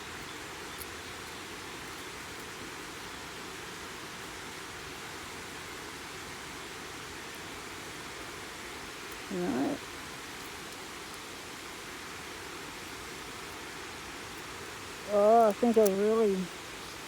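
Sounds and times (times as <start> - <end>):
river water pouring over a weir: 0.0 - 17.0.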